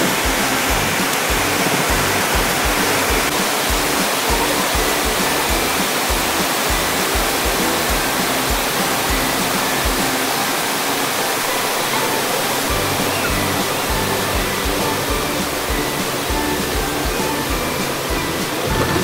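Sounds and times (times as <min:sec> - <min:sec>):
background music with low beat: 0:00.0 - 0:10.4, 0:12.6 - 0:19.0
waterfall roaring: 0:00.0 - 0:19.0.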